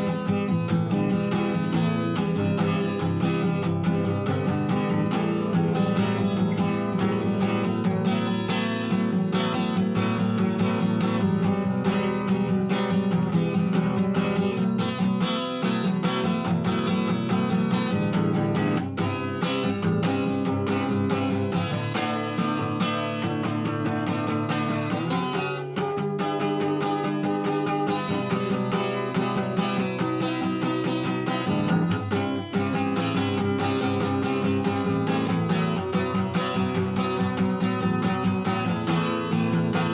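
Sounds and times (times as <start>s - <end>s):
instrumental guitar music: 0.0s - 39.9s.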